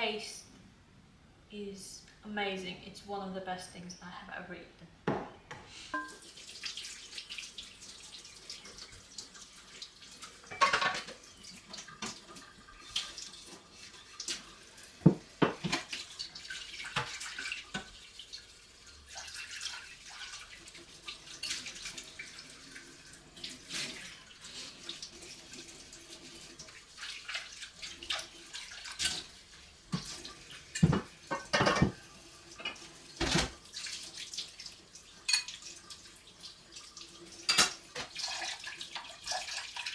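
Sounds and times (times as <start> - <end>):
tap water running into sink: 6.0 - 39.9.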